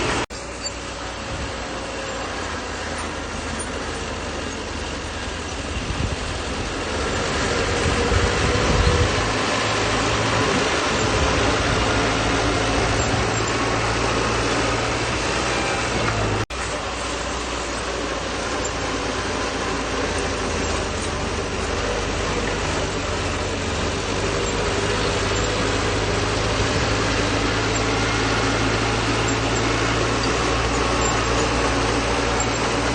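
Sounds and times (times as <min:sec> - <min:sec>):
bulldozer diesel engine: 0:00.0 - 0:32.9.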